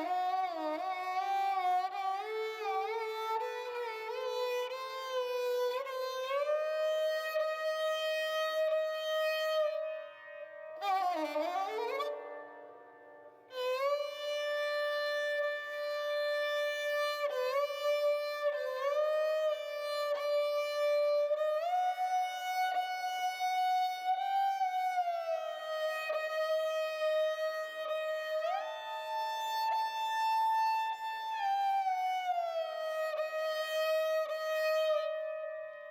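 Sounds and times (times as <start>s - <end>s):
slow bowed string melody: 0.0s - 35.9s.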